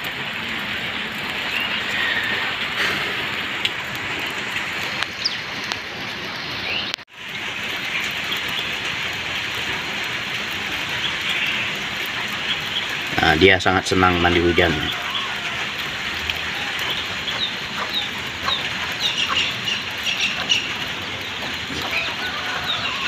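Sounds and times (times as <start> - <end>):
drizzle on a paved road: 0.0 - 23.0.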